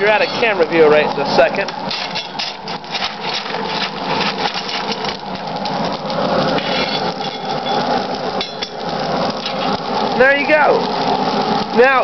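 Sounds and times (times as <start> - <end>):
coal fire crackling: 0.0 - 12.0.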